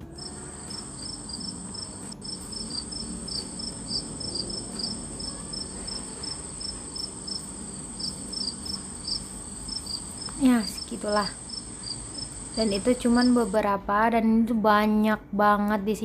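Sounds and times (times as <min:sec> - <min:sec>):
crickets chirping: 0:00.0 - 0:13.7.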